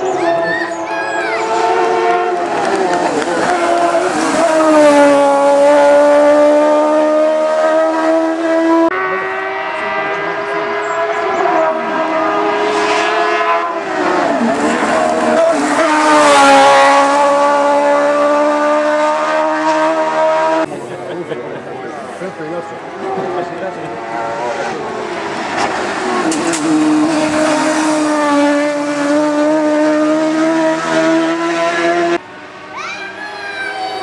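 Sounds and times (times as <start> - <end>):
race car engine at high revs: 0.0 - 33.0.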